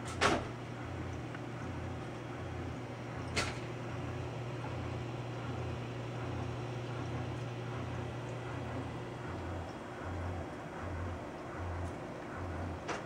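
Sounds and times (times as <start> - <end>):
aquarium pumps humming: 0.0 - 13.0.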